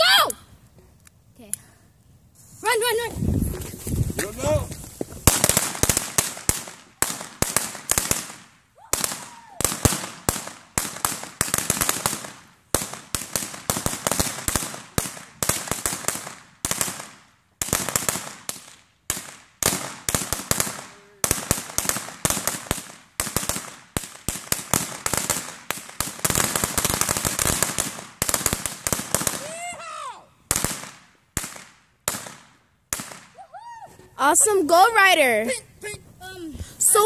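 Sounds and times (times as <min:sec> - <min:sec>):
fireworks crackling and popping: 0:00.1 - 0:37.0.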